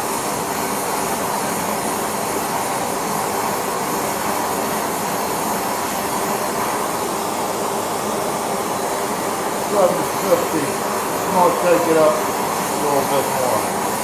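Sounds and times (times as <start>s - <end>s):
heating equipment rushing: 2.4s - 14.0s.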